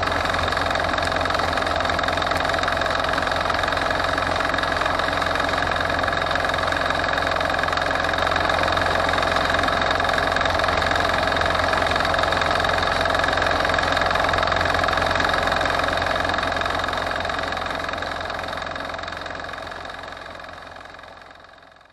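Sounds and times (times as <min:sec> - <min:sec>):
walk-behind tractor engine running: 0:00.0 - 0:21.9.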